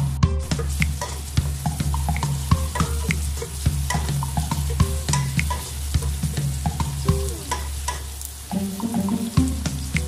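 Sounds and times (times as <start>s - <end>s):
background music: 0.0s - 10.0s
onions sizzling in oil: 0.0s - 10.0s
wooden spatula stirring clicks: 0.6s - 10.0s.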